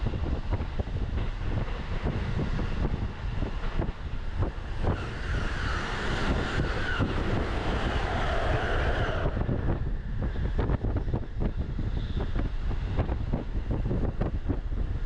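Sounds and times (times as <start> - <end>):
passing train rushing: 0.0 - 15.0
rail joint clicks: 0.0 - 15.0
train wheels rumbling on rail: 0.0 - 15.0.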